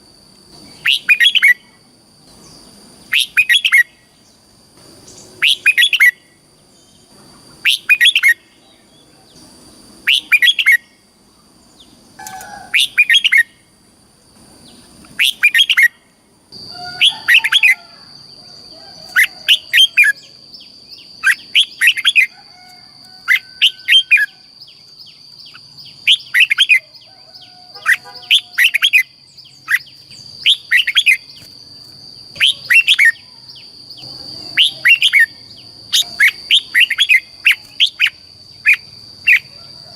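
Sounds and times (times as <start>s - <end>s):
bird singing chirpy song: 0.0s - 13.7s, 14.6s - 39.9s.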